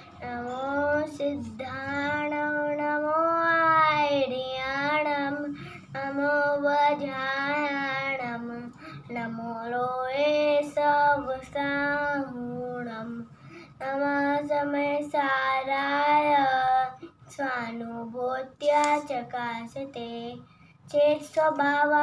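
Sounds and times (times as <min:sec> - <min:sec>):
boy singing a prayer chant: 0:00.0 - 0:22.0.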